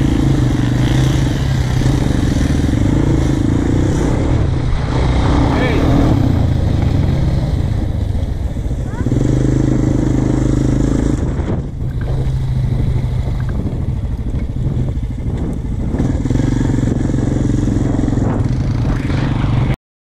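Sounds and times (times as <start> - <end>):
quad bike engine running: 0.0 - 19.8
wind noise: 0.0 - 19.8.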